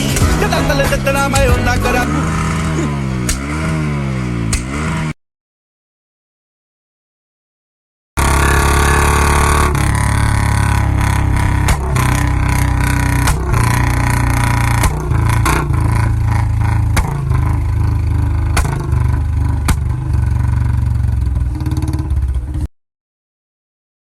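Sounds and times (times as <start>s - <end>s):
exhaust pops and backfire crackles: 0.0s - 5.2s, 8.2s - 22.7s
motorcycle engine revving: 0.0s - 5.2s, 8.2s - 22.7s.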